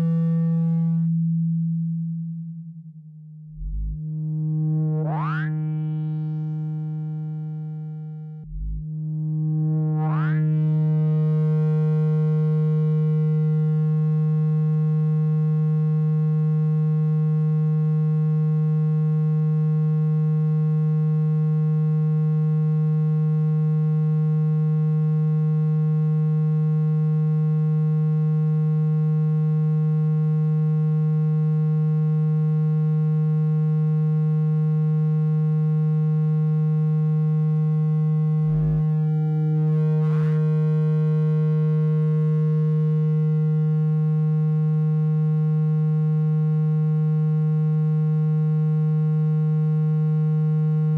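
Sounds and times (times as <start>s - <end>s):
low buzzy electronic tone: 0.0s - 50.9s.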